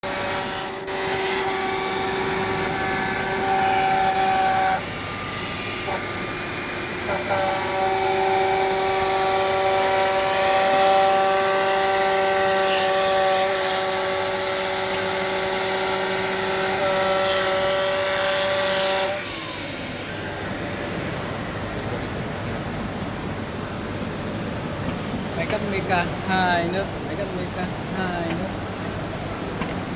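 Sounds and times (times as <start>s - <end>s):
machine motors whining: 0.0s - 26.2s.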